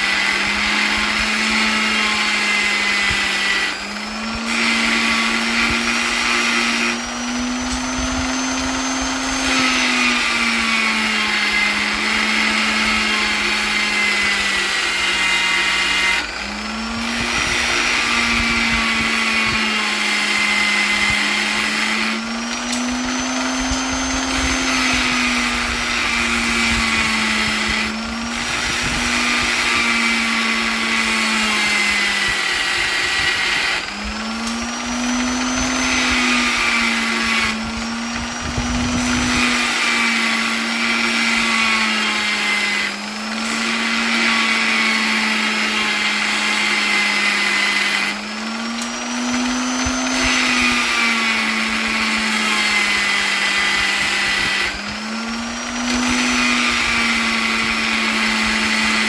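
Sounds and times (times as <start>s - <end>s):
electric polisher whirring: 0.0s - 59.0s.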